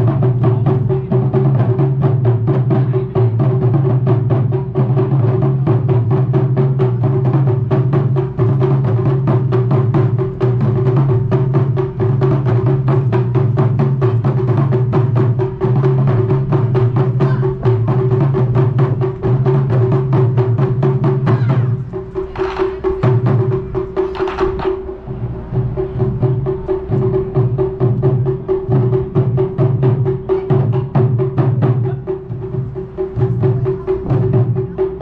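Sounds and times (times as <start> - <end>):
barrel drums drumming: 0.0 - 35.0.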